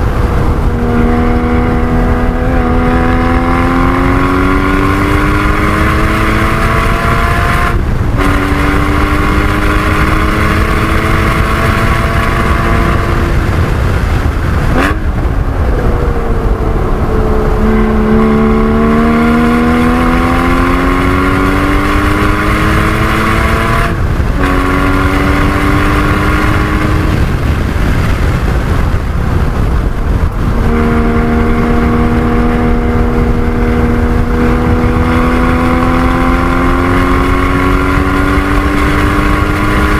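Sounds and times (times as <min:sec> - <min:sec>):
car engine at full throttle: 0:00.0 - 0:39.9
road and wind noise: 0:00.0 - 0:39.9.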